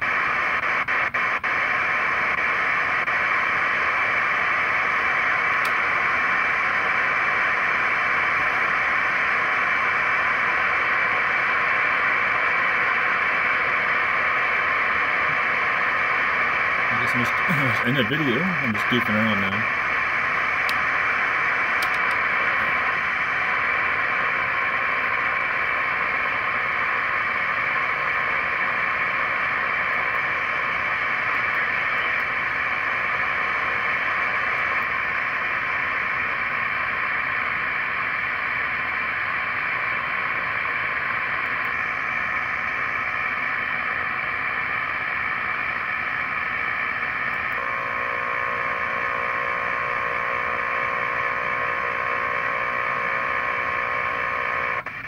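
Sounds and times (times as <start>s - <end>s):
faint steady radio tones: 0.0s - 55.0s
radio static hiss: 0.0s - 55.0s.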